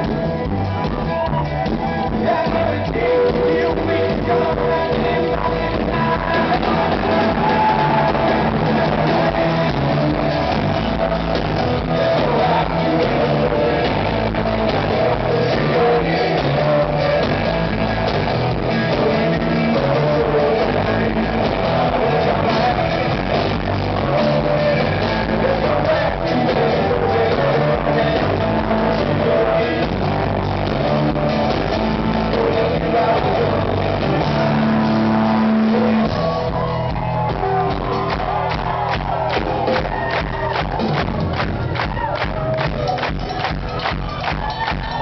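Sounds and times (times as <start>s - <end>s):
acoustic guitar: 0.0s - 45.0s
drums: 0.0s - 45.0s
electric bass: 0.0s - 45.0s.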